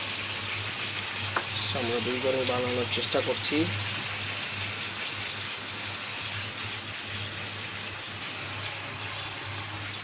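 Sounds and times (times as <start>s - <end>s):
steak sizzling in a pan: 0.0s - 10.0s.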